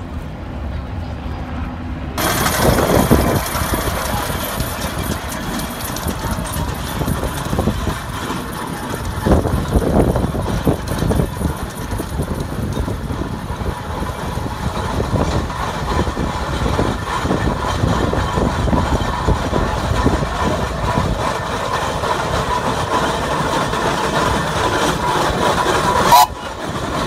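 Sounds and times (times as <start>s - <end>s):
steam traction engine running: 2.2s - 27.0s.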